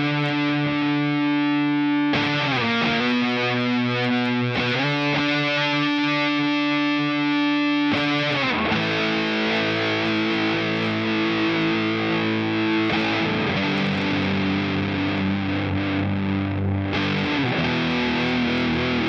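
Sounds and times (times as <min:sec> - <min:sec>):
fuzzy electric guitar chords: 0:00.0 - 0:19.0.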